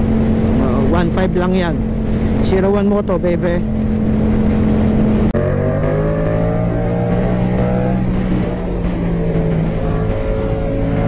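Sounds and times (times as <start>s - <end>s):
motorcycle engine accelerating: 0.0s - 11.0s
wind and road noise: 0.0s - 11.0s.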